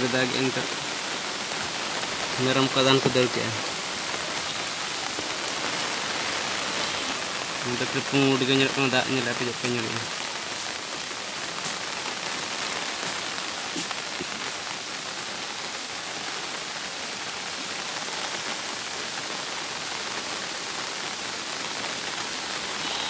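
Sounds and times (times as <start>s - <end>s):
rain falling on vegetation: 0.0s - 23.0s.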